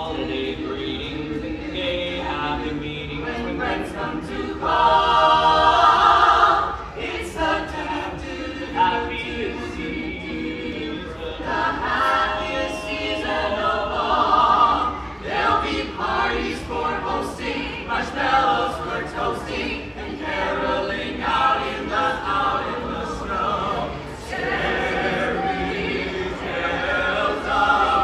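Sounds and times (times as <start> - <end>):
group singing a cappella carol: 0.0 - 28.0.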